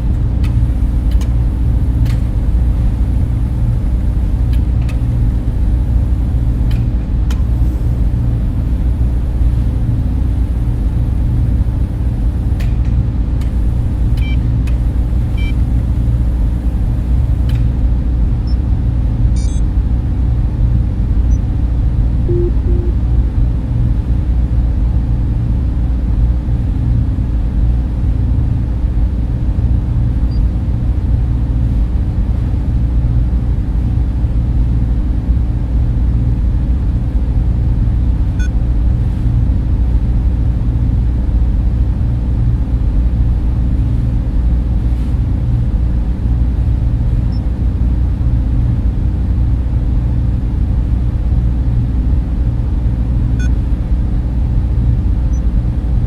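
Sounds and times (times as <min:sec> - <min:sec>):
faint hum: 0:00.0 - 0:25.7, 0:29.6 - 0:56.0
server and cooling fans rumbling: 0:00.0 - 0:56.0.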